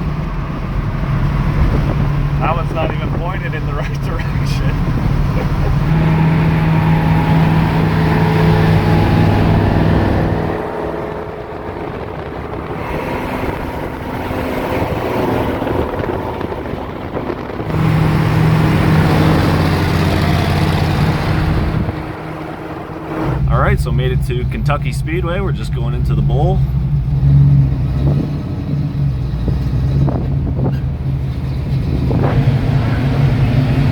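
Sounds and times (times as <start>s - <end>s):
car engine droning: 0.0s - 33.9s
road and wind noise: 0.0s - 33.9s.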